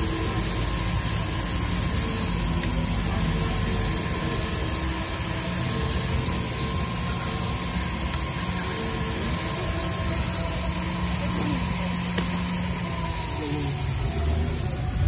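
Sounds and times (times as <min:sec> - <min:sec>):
engraving machine spindle whining: 0:00.0 - 0:15.0.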